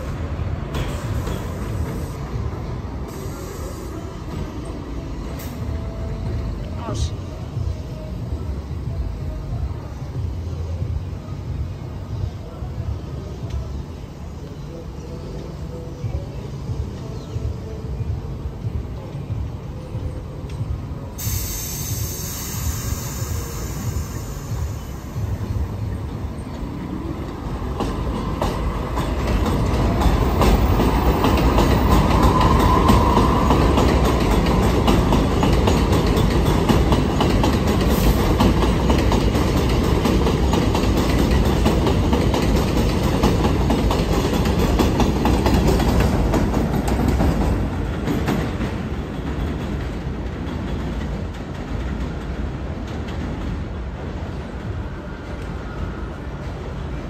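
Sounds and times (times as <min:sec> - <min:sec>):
subway train rumbling on track: 0:00.0 - 0:57.0.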